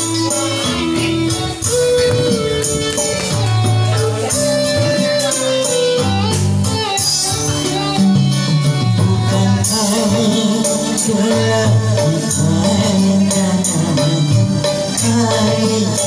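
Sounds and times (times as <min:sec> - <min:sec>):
dangdut music with steady beat: 0:00.0 - 0:16.0.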